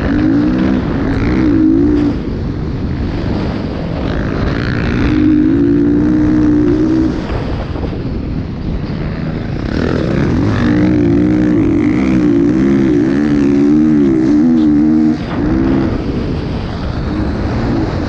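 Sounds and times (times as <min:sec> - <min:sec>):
motorcycle engine revving hard: 0:00.0 - 0:18.0.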